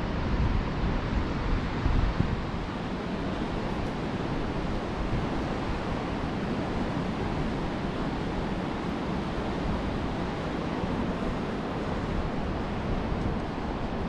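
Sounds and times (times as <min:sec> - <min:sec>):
wind: 0:00.0 - 0:14.0
wind buffeting microphone: 0:00.0 - 0:14.0.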